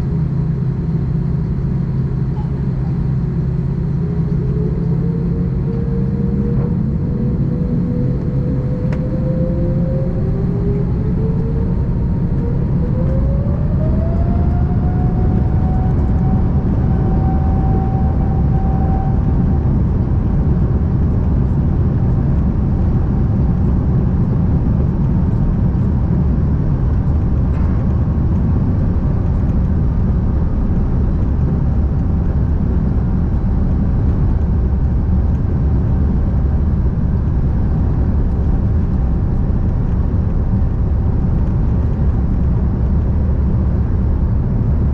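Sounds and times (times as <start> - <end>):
jet engine whine: 0.0 - 44.9
loud rumble of takeoff roll: 0.0 - 44.9.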